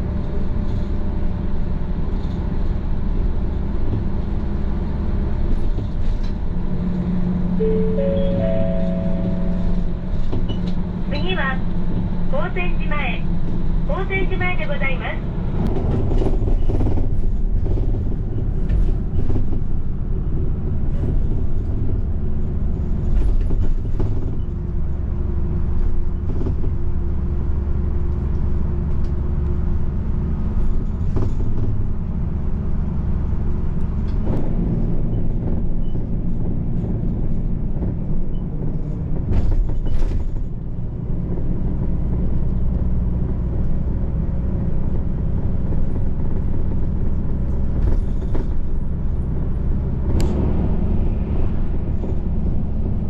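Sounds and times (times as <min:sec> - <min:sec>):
diesel engine drone: 0:00.0 - 0:53.0
ride rumble: 0:00.0 - 0:53.0.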